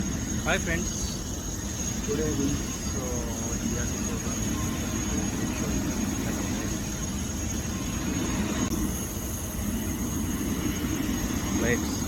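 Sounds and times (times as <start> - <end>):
high-pitched whine: 0.0 - 12.0
jet engines rumbling: 0.0 - 12.0.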